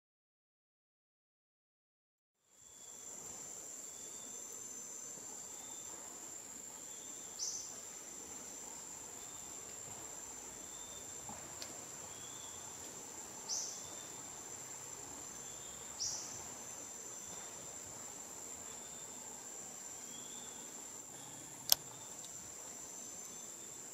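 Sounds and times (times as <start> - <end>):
insects droning: 2.4 - 23.9.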